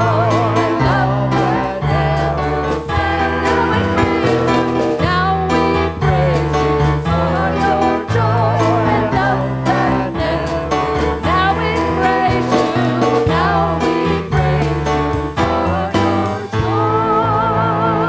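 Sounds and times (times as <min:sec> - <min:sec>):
band playing worship music: 0:00.0 - 0:18.0
person singing: 0:00.0 - 0:18.0.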